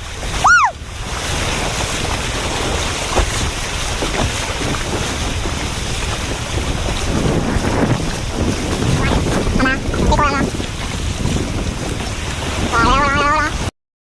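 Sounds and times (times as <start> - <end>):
water washing around kayak: 0.0 - 13.7
wind buffeting microphone: 0.0 - 13.7.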